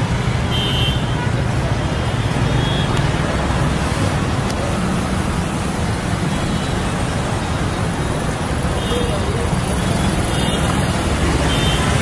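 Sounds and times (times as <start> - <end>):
street traffic passing: 0.0 - 12.0.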